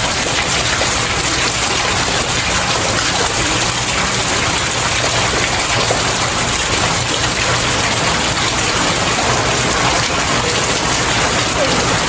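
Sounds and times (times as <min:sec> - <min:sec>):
heavy rain on stairs: 0:00.0 - 0:12.0.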